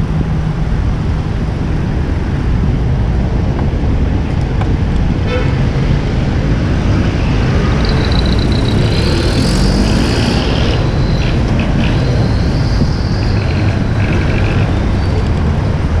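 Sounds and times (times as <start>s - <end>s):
passing road traffic: 0.0s - 16.0s
wind buffeting microphone: 0.0s - 16.0s.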